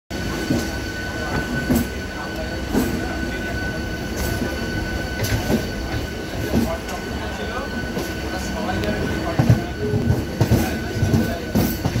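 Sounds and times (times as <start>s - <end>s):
train rumble and rail noise: 0.1s - 12.0s.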